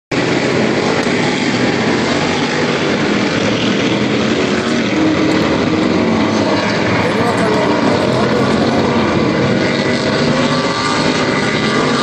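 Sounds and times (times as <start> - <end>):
racing car engines droning: 0.2 - 12.0.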